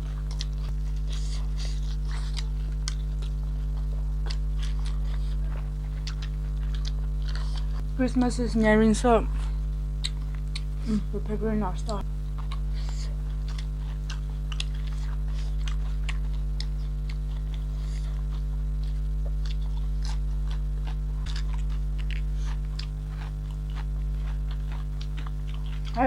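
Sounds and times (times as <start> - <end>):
person chewing and crunching: 0.0 - 7.9, 9.3 - 11.0, 11.9 - 26.0
low electrical hum: 0.0 - 26.0.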